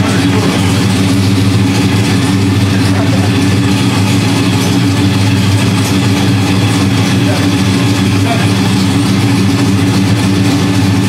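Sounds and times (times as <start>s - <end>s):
vee eight engine idling: 0.0s - 11.0s.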